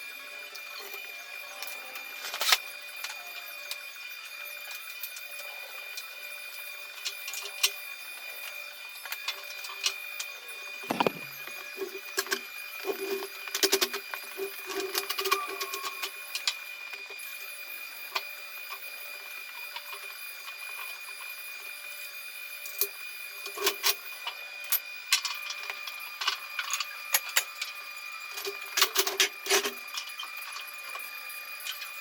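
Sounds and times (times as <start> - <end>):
steady high-pitched hum: 0.0 - 32.0.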